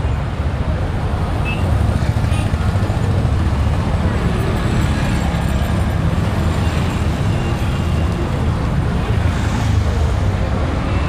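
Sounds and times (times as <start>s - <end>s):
engines rumbling: 0.0s - 11.0s.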